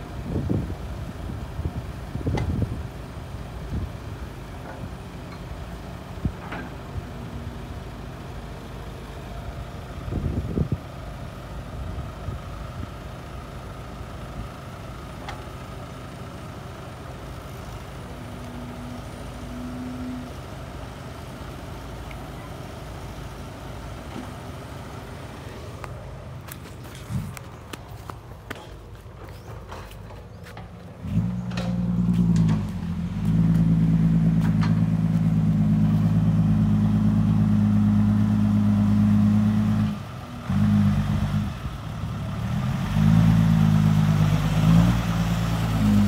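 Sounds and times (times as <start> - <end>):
diesel engines running: 0.0 - 46.0.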